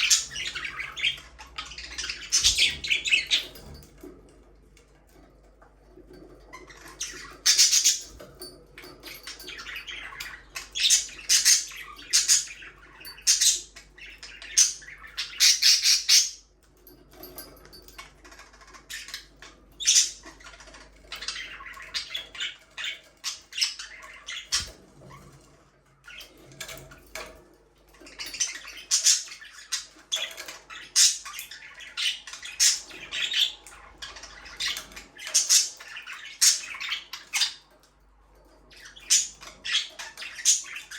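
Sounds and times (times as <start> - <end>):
budgerigars chattering and squawking: 0.0 - 3.9, 6.5 - 16.5, 18.3 - 25.4, 28.0 - 37.7, 38.7 - 40.9.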